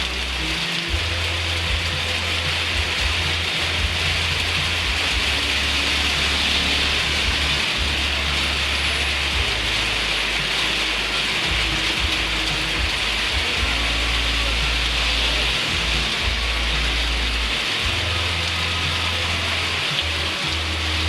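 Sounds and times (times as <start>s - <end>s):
low rumble: 0.0s - 21.0s
steady rain falling: 0.0s - 21.0s.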